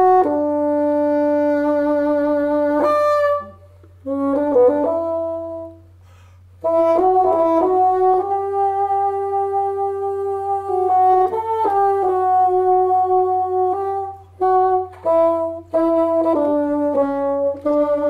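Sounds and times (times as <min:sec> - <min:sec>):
bassoons playing slow melody: 0:00.0 - 0:18.0.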